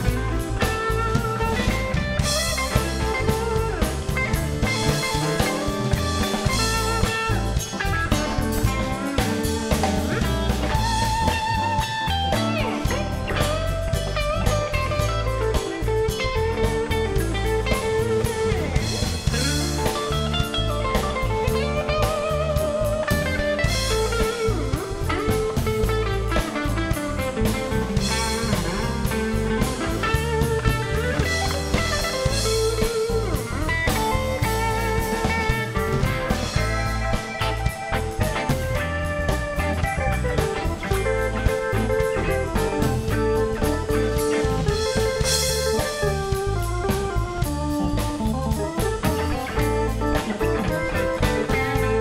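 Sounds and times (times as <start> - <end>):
electric guitar solo: 0.0 - 52.0
live blues band: 0.0 - 52.0.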